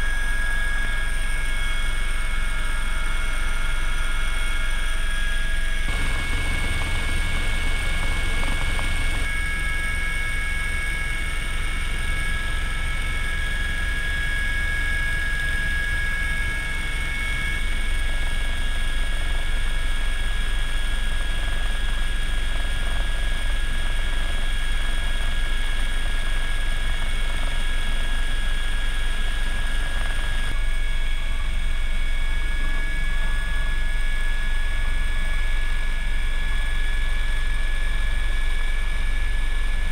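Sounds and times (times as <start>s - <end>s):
high-pitched engine whine: 0.0s - 39.9s
helicopter rotor rumble: 5.7s - 39.8s.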